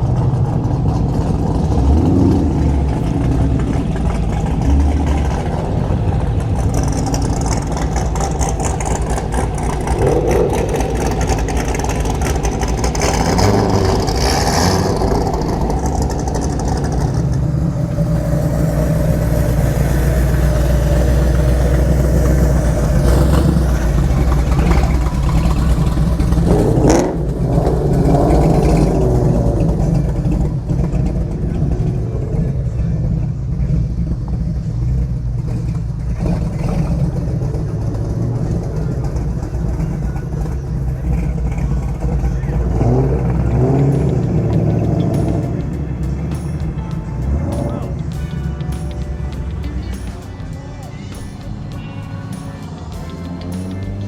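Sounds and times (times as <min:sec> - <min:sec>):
cars driving slowly past: 0:00.0 - 0:54.0.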